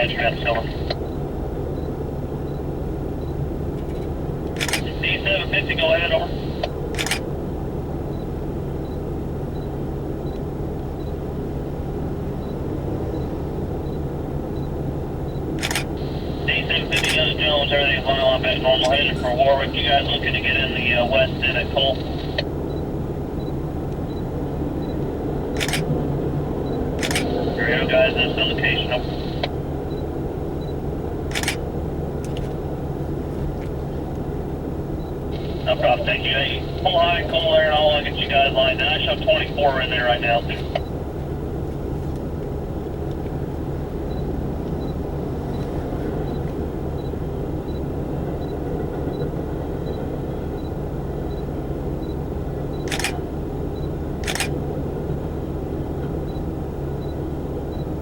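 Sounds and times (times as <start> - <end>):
low engine hum: 0.0 - 58.0
low vehicle rumble: 0.0 - 58.0.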